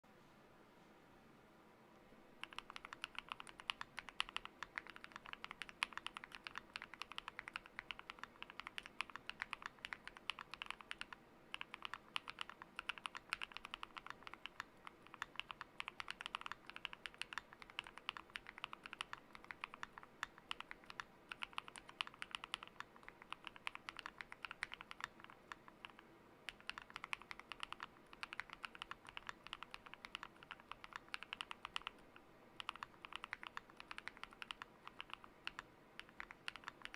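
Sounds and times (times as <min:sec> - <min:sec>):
mechanical keyboard typing: 0:02.4 - 0:36.9.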